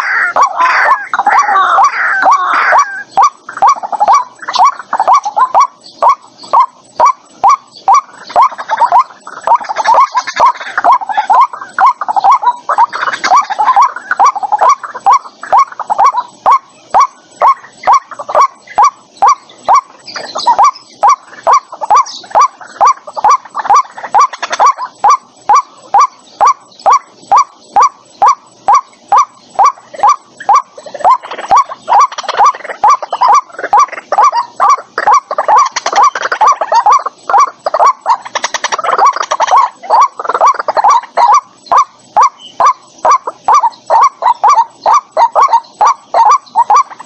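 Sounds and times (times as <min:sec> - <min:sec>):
waterhen calling: 0:00.0 - 0:47.0.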